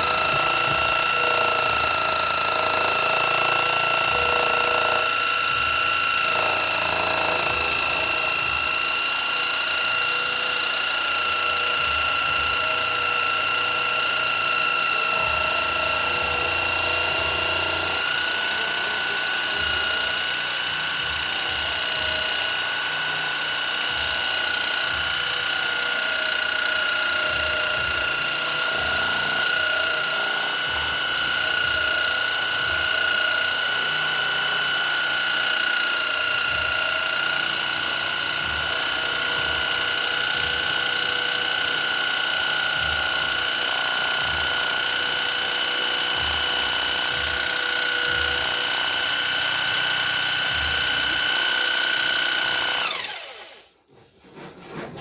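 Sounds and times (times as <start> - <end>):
electric drill whining: 0.0 - 53.9.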